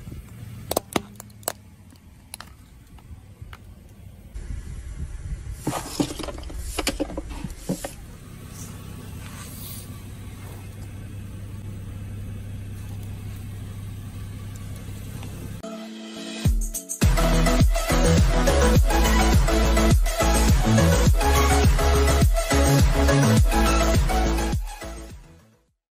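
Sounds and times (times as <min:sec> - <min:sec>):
car engine idling: 0:00.0 - 0:05.3, 0:06.8 - 0:15.6, 0:17.1 - 0:25.1.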